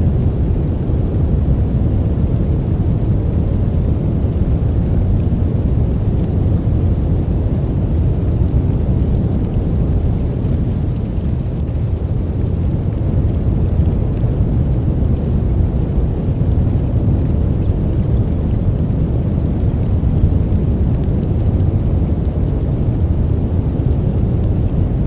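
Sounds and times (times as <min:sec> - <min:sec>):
deep rumbling white noise: 0:00.0 - 0:25.0.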